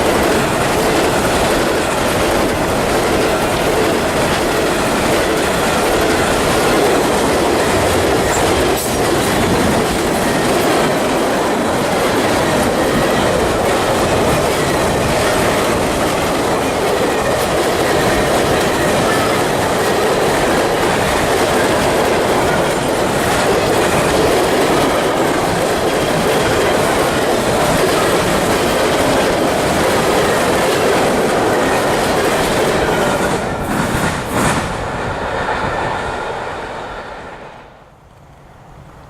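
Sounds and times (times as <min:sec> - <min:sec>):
freight train wheels on rails: 0:00.0 - 0:39.0.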